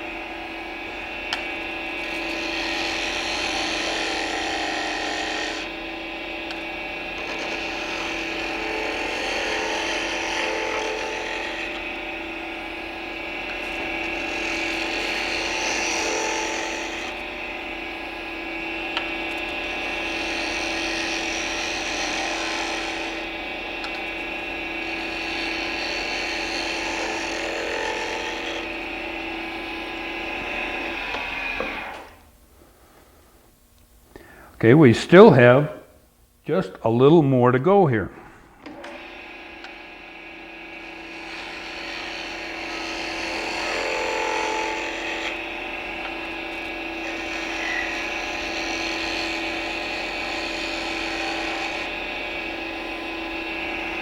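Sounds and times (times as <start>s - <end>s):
lathe motor hum: 0.0s - 32.2s, 38.5s - 54.0s
tool cutting spinning wood: 0.0s - 32.2s, 38.6s - 54.0s.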